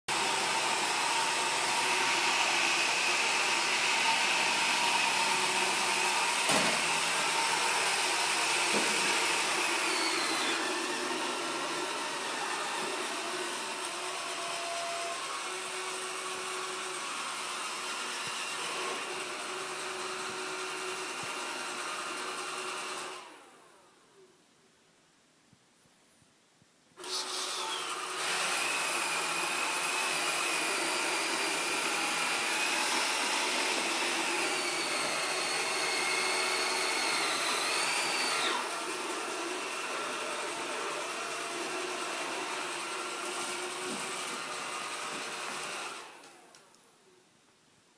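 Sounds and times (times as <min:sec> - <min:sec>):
robot vacuum whirring: 0:00.1 - 0:23.8, 0:27.0 - 0:46.6.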